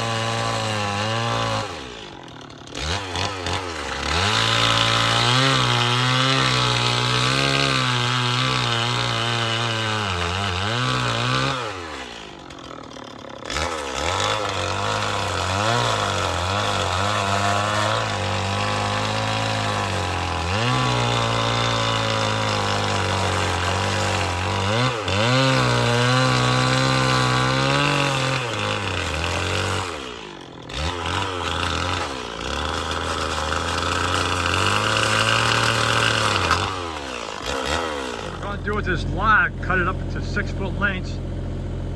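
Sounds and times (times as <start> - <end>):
chainsaw cutting log: 0.0 - 41.9.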